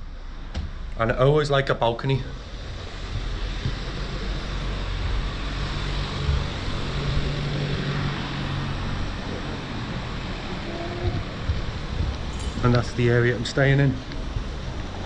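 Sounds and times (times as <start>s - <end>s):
city traffic hum: 0.0s - 15.0s.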